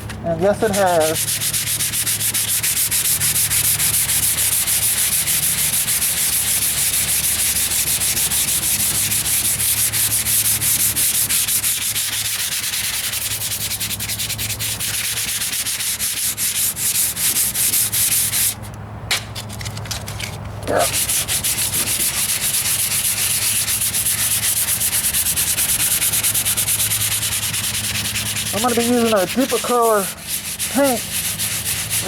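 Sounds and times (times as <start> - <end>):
sandpaper rasping: 0.6 - 18.7, 19.4 - 32.0.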